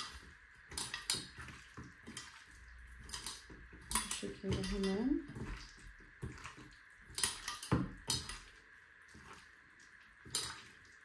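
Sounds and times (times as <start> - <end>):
wet squelches of meat: 0.0 - 11.0.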